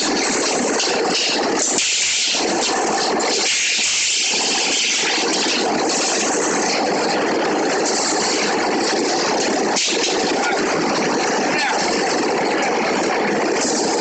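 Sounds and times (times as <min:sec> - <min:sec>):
welding machine running: 0:00.0 - 0:14.0.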